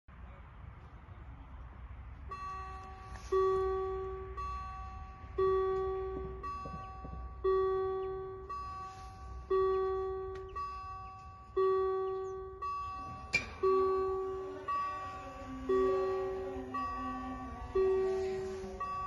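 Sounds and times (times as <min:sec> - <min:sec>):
level crossing warning bell: 0:02.2 - 0:19.0.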